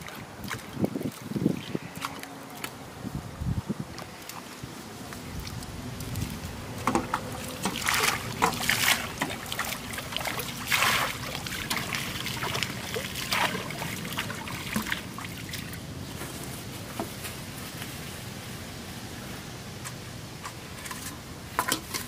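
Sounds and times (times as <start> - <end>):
water splashing and pattering: 0.0 - 18.0.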